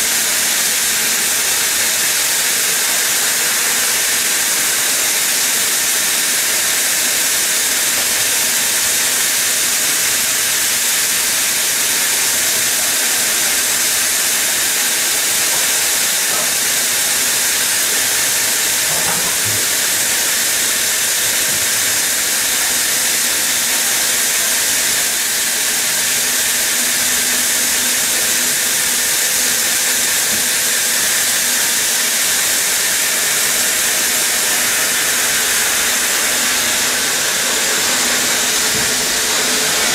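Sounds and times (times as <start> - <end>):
saw blades cutting stone: 0.0 - 39.9.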